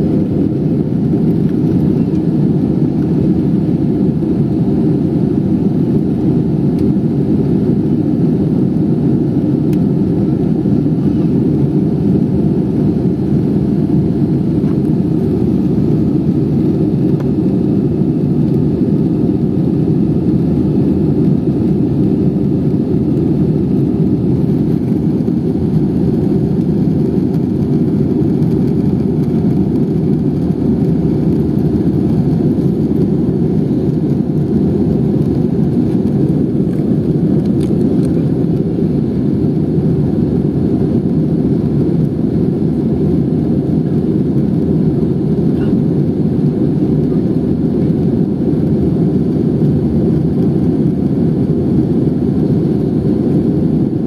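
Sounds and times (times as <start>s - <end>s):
aircraft engine rumble in cabin: 0.0s - 54.0s.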